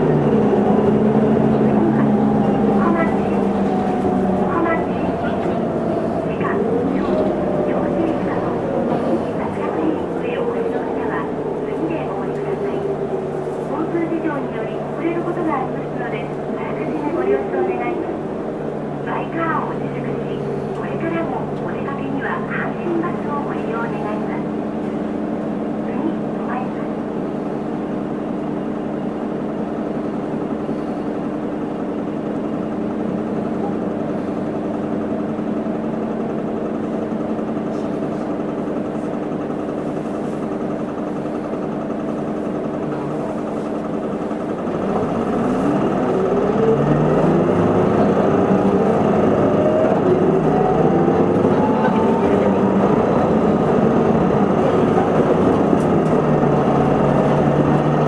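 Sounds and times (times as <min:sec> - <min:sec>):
bus engine idling and revving: 0:00.0 - 0:58.0.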